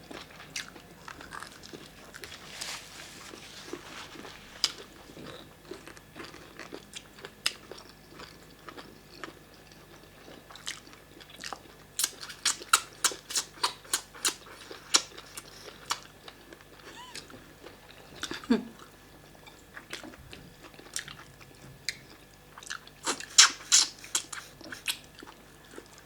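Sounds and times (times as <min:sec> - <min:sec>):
chewing and smacking: 0:00.0 - 0:26.0.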